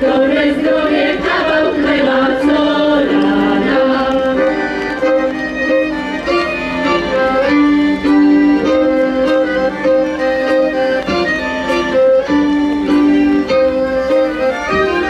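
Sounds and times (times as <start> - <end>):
folk fiddle melody: 0.0 - 15.0.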